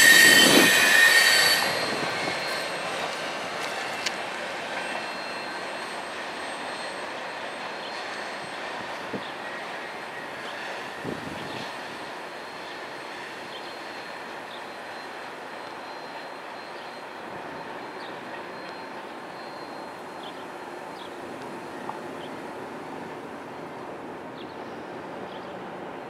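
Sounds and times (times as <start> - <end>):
train wheels squealing: 0.0 - 23.1
train rolling rumble: 0.0 - 26.0.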